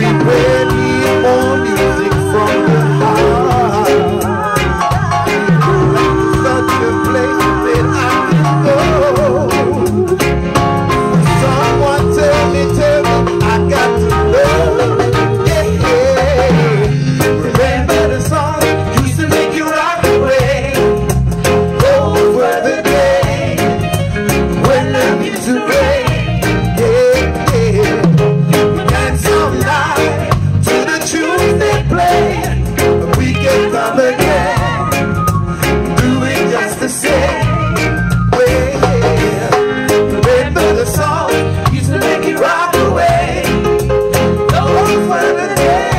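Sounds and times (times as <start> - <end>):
reggae band playing: 0.0 - 45.9
singers singing together: 0.0 - 45.9.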